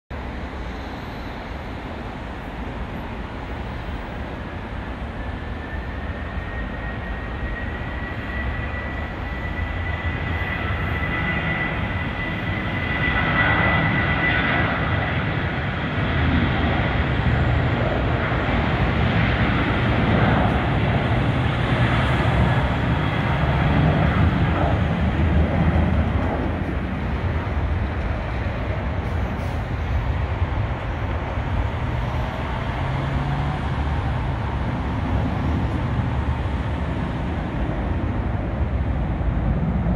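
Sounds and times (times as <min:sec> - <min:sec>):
jet engines at takeoff thrust: 0:00.1 - 0:39.9.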